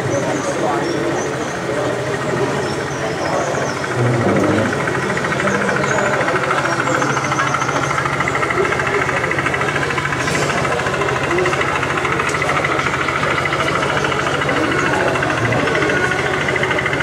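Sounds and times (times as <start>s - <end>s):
model train running: 0.0s - 17.0s.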